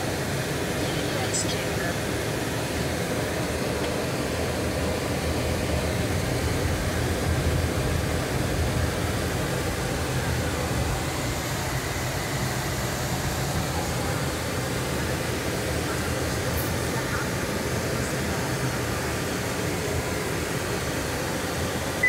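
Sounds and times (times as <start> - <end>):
engine hum: 0.0 - 22.0
road and tyre rumble: 0.0 - 22.0.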